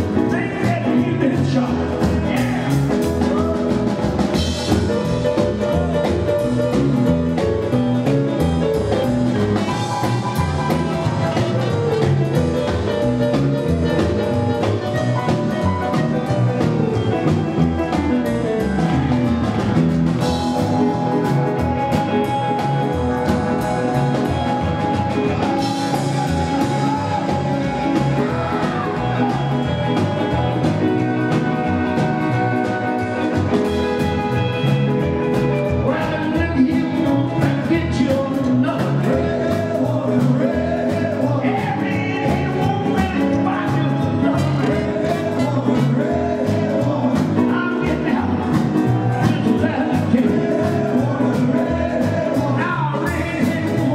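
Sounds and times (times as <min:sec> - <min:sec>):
drum kit: 0:00.0 - 0:53.9
electric piano: 0:00.0 - 0:53.9
guitar: 0:00.0 - 0:53.9
upright bass: 0:00.0 - 0:53.9.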